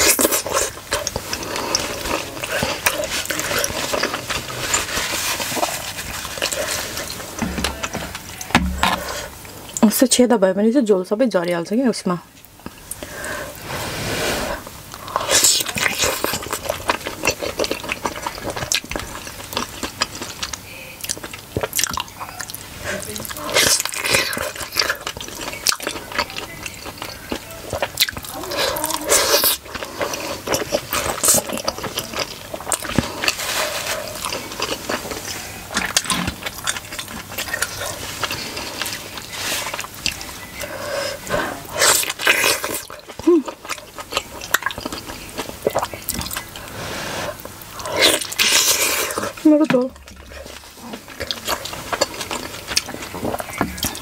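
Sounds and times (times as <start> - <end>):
chewing and biting dumplings: 0.0 - 9.9, 14.6 - 54.0.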